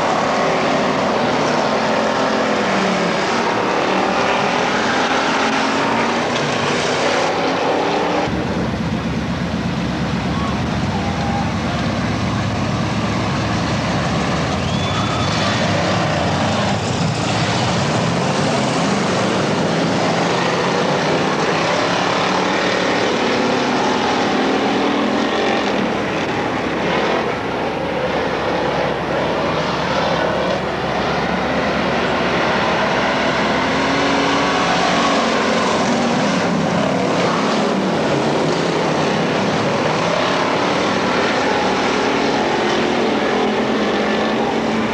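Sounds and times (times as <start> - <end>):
race car engines revving: 0.0 - 44.9.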